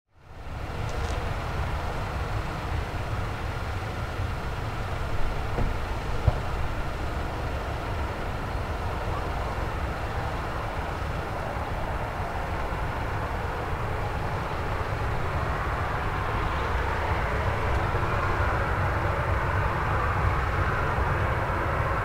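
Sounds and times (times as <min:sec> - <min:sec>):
distant jet engines rumbling: 0:00.3 - 0:22.0.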